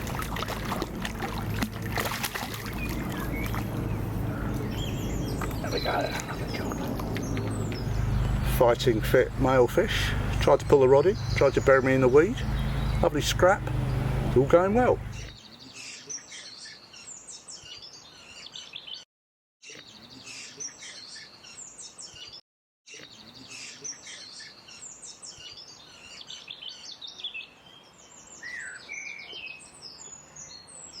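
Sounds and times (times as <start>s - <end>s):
birds singing and chirping: 0.0s - 19.0s, 19.7s - 31.0s.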